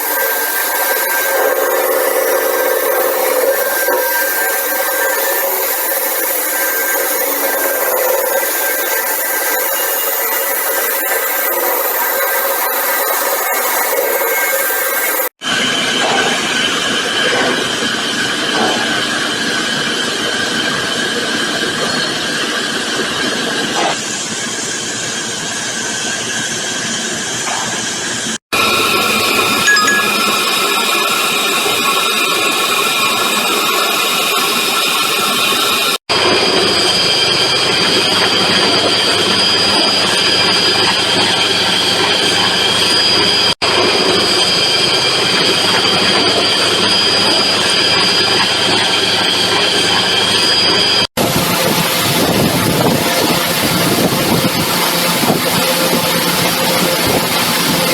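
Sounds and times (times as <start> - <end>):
metal lathe cutting steel: 0.0 - 29.0, 31.3 - 57.9.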